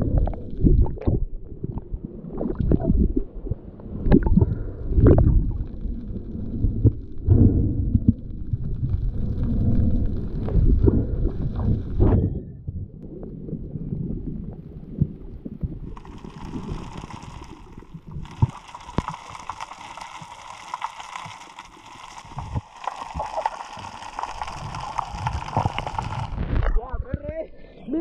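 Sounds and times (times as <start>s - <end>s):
dense crackle of fine clicks: 0.0s - 27.6s
underwater rumble of moving water: 0.0s - 27.9s.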